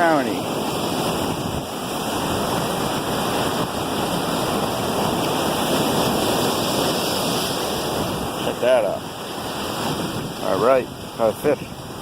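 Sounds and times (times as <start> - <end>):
ocean surf rushing: 0.0 - 12.0.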